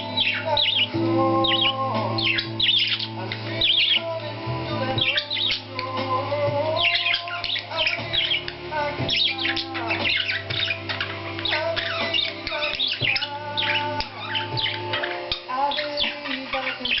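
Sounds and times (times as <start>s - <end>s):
background music: 0.0s - 17.0s
budgerigars chattering and chirping: 0.0s - 17.0s.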